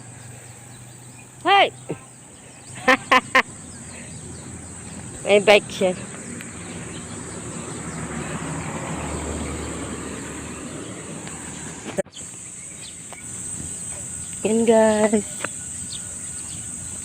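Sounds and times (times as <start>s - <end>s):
insects trilling: 0.0s - 17.0s
passing vehicle rumble: 0.0s - 17.0s.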